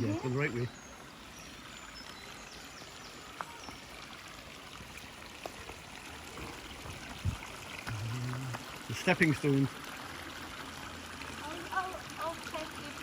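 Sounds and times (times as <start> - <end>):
river water running over stones: 0.0 - 13.0.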